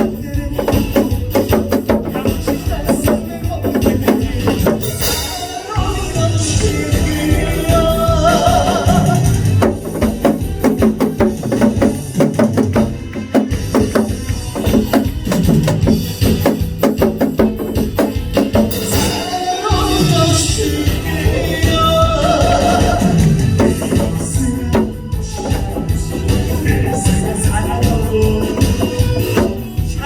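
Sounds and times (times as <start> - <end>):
backing track music: 0.0 - 30.0
hourglass drum strokes: 0.9 - 30.0.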